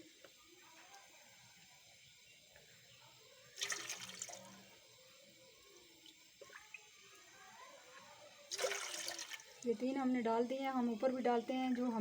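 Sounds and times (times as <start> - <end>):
water pouring into a pot: 0.0 - 9.8.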